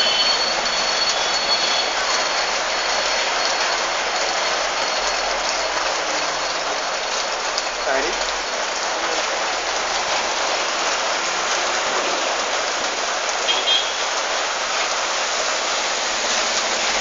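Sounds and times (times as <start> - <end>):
steady rain hiss: 0.0 - 17.0
vehicles passing on wet street: 0.0 - 17.0.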